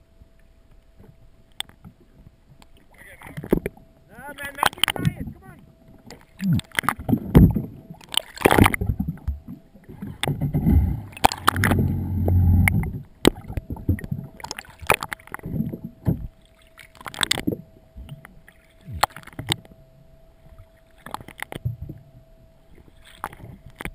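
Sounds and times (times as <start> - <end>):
water sloshing and gurgling: 0.1 - 23.9.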